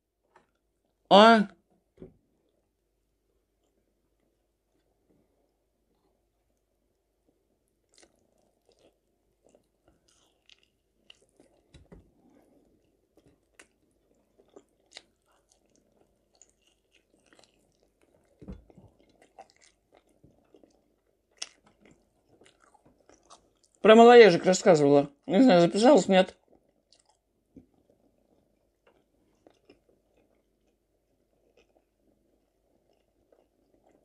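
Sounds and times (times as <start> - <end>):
faint chewing: 2.2 - 23.8, 26.3 - 34.0.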